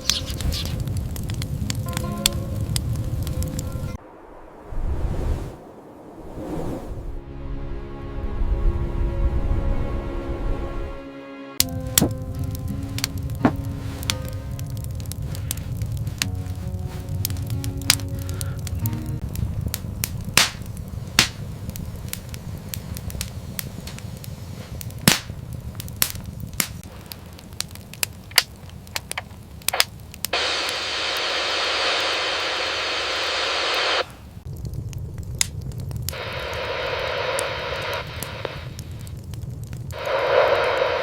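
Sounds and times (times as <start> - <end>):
fire crackling with sharp pops: 0.0 - 6.8, 11.6 - 41.0
steady rushing hiss: 0.0 - 7.0, 11.6 - 34.6, 36.1 - 41.0.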